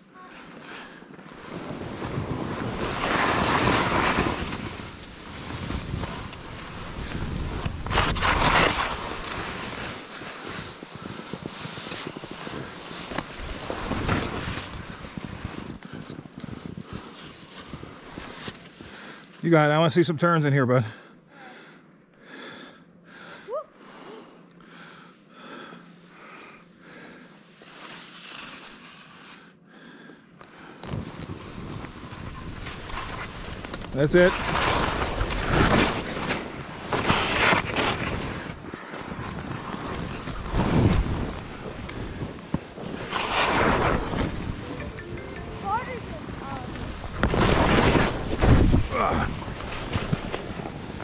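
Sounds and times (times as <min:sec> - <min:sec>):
skis scraping on snow: 0:00.3 - 0:19.8, 0:27.0 - 0:29.5, 0:30.8 - 0:51.0.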